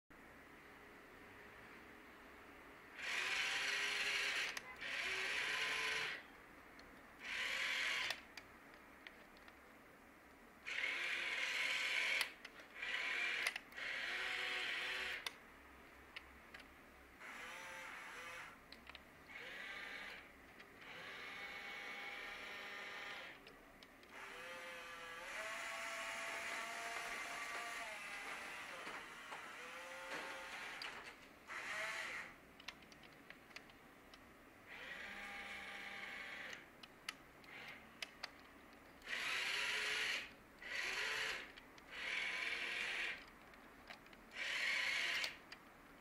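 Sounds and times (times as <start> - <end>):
toy excavator motors whirring: 2.9 - 6.3, 7.2 - 8.4, 10.6 - 15.4, 16.2 - 33.7, 34.7 - 45.7.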